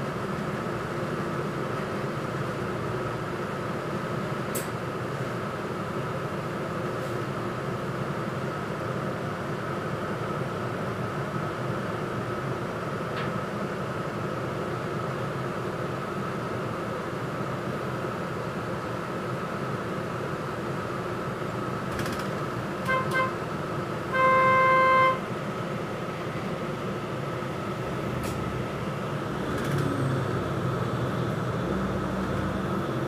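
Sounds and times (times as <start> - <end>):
bus engine and air conditioning hum: 0.0 - 33.0.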